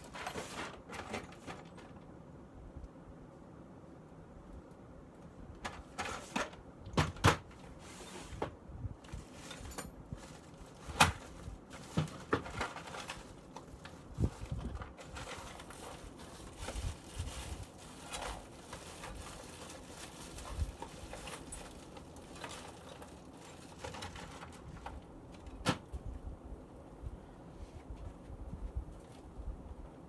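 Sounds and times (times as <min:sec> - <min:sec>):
ceiling fan rushing air: 0:00.0 - 0:30.0.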